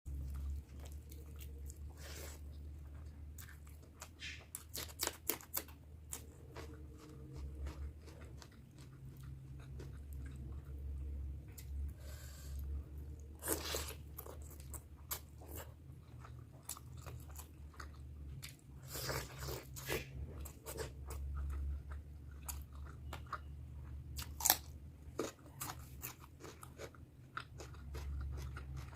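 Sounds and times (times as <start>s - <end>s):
person chewing food: 0.1s - 28.9s
steady low hum: 0.1s - 28.9s.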